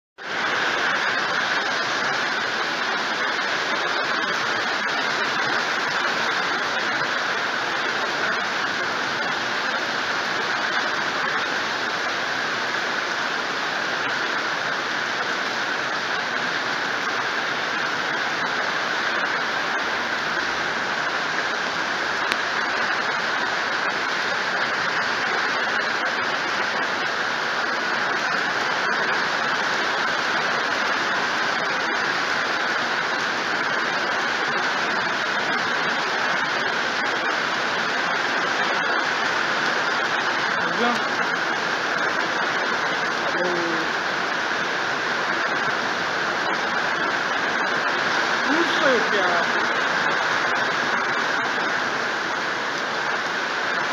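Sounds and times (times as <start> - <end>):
heavy rain on pavement: 0.2 - 53.9.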